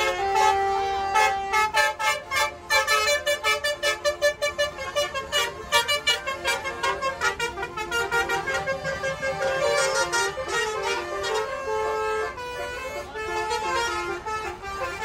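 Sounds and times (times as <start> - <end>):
musical bus air horn: 0.0 - 15.0.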